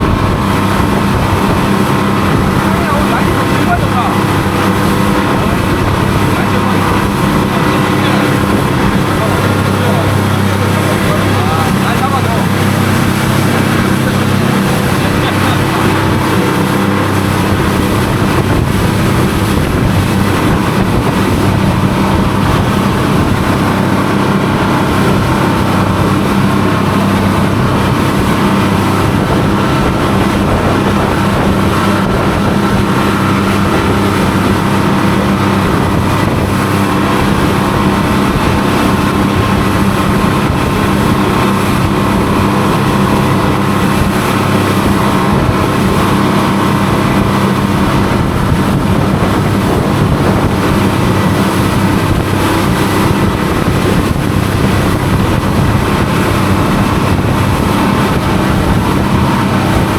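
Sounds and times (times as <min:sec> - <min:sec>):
boat engine running: 0:00.0 - 0:59.9
rush of water and wind: 0:00.0 - 0:59.9.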